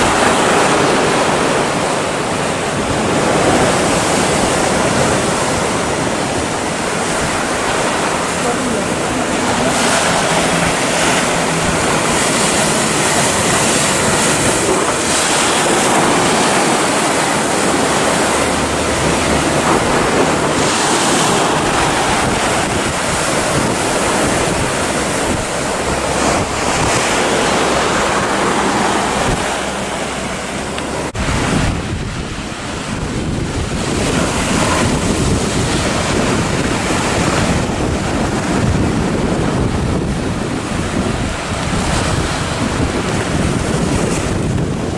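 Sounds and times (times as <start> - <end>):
ocean surf breaking: 0.0 - 44.9
wind buffeting microphone: 0.0 - 44.9.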